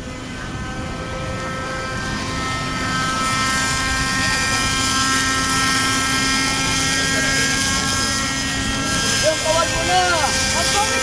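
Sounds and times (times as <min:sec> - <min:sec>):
rc helicopter engine whine: 0:00.0 - 0:11.0.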